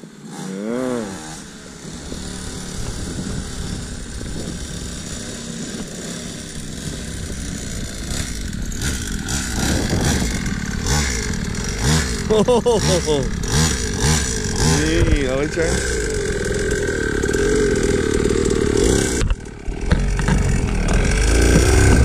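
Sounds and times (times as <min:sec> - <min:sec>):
small two-stroke engine running: 0:00.0 - 0:22.0.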